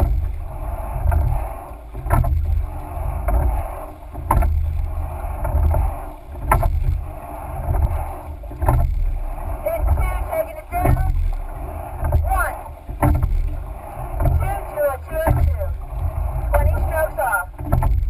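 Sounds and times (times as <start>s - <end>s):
oars knocking in oarlocks: 0.0s - 18.0s
water rushing along hull: 0.0s - 18.0s
wind rumbling on microphone: 0.0s - 18.0s.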